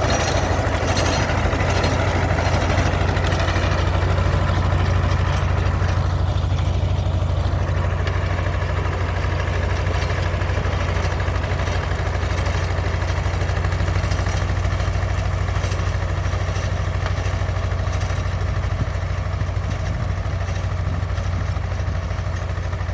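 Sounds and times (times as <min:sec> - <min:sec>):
diesel tractor engine running: 0:00.0 - 0:22.9.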